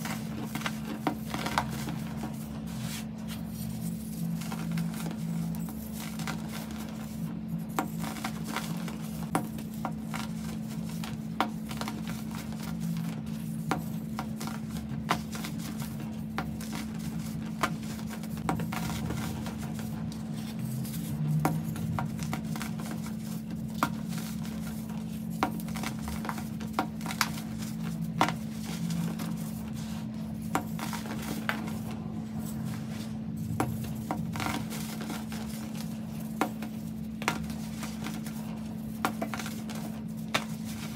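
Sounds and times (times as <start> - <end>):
powder clumps crunching by hand: 0.0 - 40.9
steady low hum: 0.0 - 40.9.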